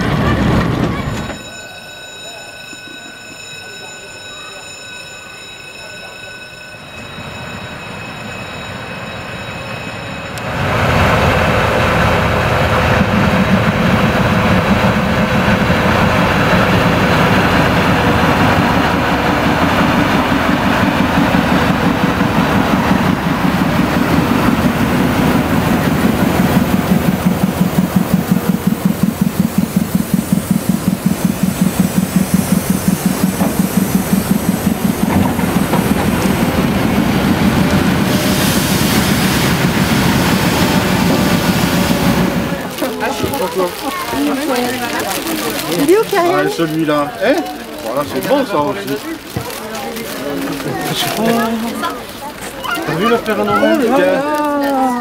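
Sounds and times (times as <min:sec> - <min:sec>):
diesel locomotive engine running: 0:00.0 - 0:54.9.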